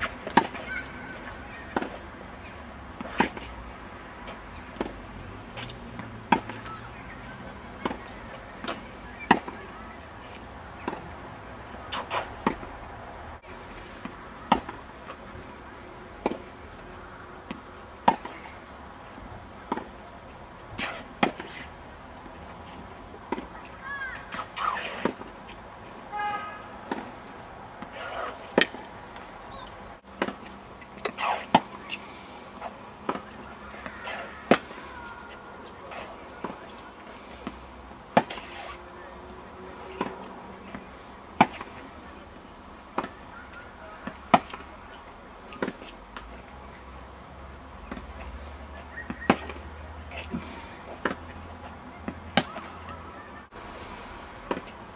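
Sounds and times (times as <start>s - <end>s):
tennis balls struck by rackets: 0.0s - 3.6s, 4.2s - 5.0s, 5.6s - 12.8s, 13.4s - 18.6s, 19.2s - 21.6s, 22.2s - 38.8s, 39.7s - 44.8s, 45.5s - 46.4s, 47.8s - 53.6s, 54.4s - 54.8s
tennis balls bouncing on court: 0.0s - 13.0s, 13.6s - 21.6s, 26.8s - 32.0s, 32.6s - 38.8s, 39.7s - 44.8s, 45.5s - 46.5s, 47.3s - 53.6s, 54.4s - 54.8s.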